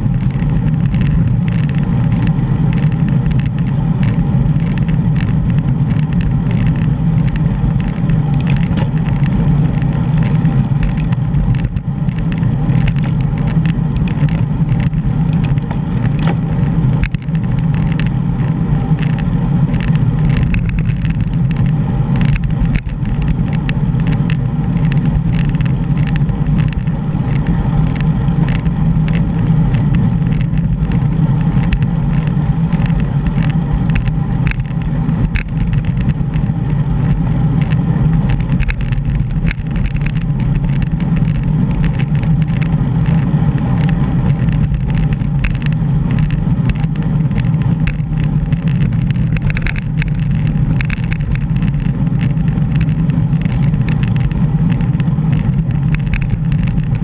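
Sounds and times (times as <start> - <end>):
small clicks and rattles: 0.0 - 57.0
wind rumbling on microphone: 0.0 - 57.0.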